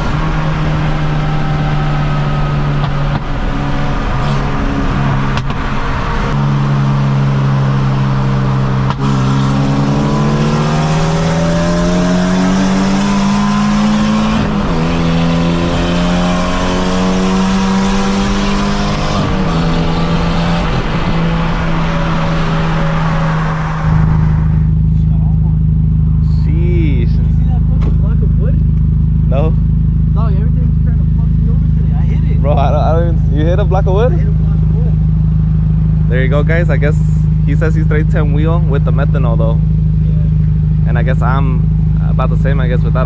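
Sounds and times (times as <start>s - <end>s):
car engine at full throttle: 0.0s - 43.0s.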